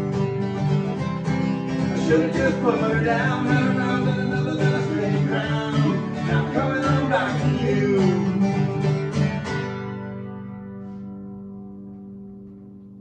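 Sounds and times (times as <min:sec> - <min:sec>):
guitars strumming chords: 0:00.0 - 0:13.0.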